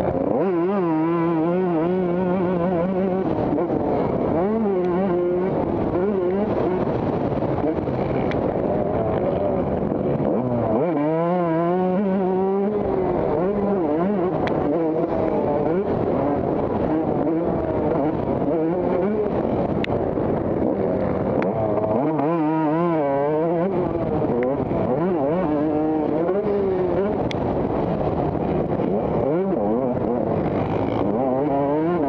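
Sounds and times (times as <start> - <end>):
bike revving loudly: 0.0 - 32.0
dirt bike engines racing: 0.0 - 32.0.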